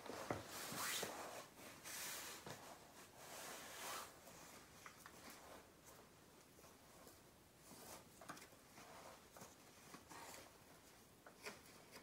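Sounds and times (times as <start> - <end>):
jacket rustling: 0.0 - 10.8.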